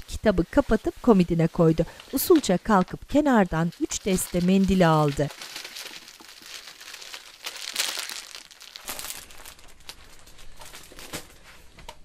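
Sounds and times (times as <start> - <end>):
plastic wrap crinkling: 0.3 - 11.4.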